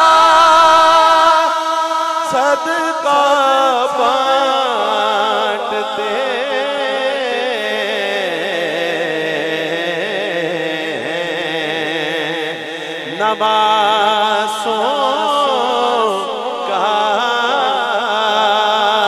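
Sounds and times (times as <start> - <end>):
man singing through a pa system: 0.0 - 19.0.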